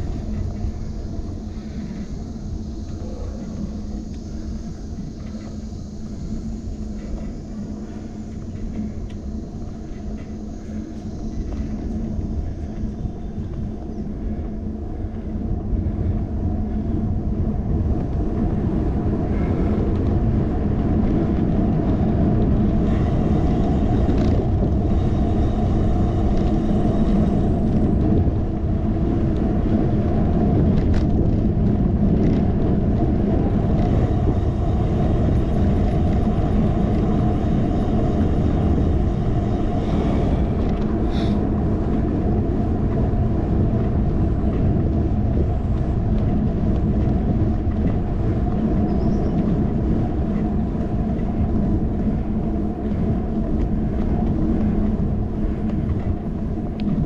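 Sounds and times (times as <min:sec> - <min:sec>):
bicycle road noise: 0:00.0 - 0:57.0
wind noise on microphone: 0:00.0 - 0:57.0.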